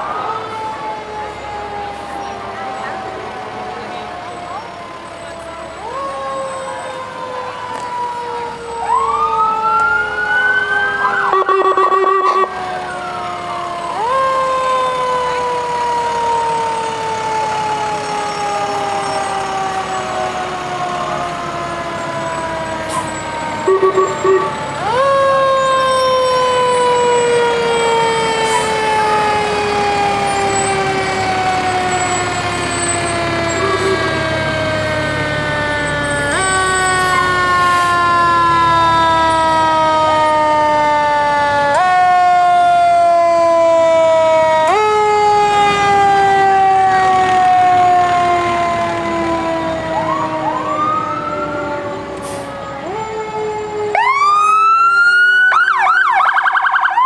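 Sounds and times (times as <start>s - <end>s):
fire truck siren wailing: 0.0s - 57.0s
second siren sweeping up: 0.0s - 57.0s.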